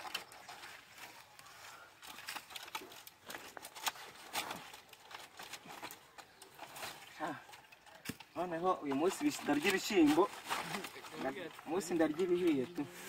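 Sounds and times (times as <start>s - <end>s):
dry leaves crackling and tearing: 0.0s - 7.3s, 9.0s - 12.5s.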